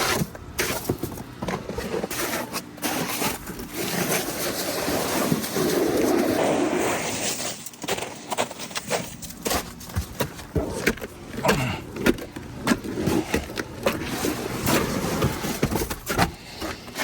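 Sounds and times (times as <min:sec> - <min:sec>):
ice scraped off steps: 0:00.0 - 0:17.0.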